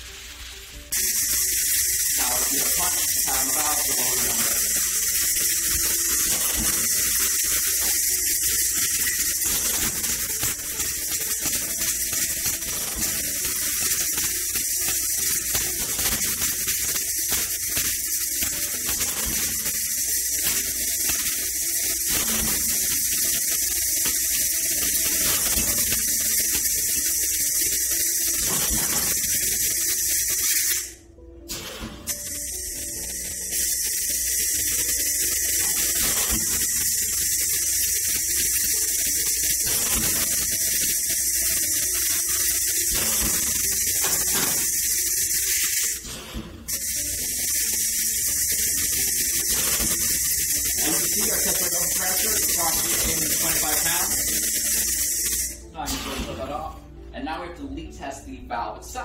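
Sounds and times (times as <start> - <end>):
gas hissing from valve: 0.0 - 56.7.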